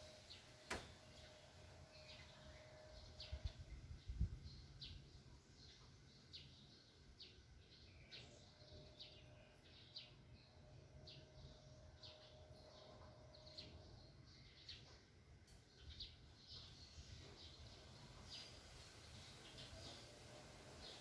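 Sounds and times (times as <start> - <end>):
small bird chirping: 0.0 - 20.2.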